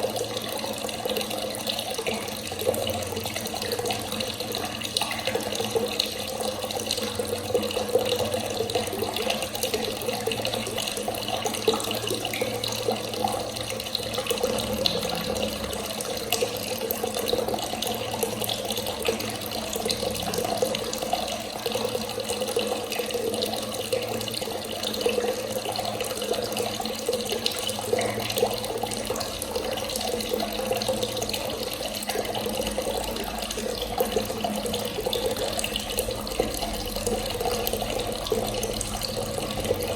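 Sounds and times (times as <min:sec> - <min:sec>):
tap water running: 0:00.0 - 0:39.9.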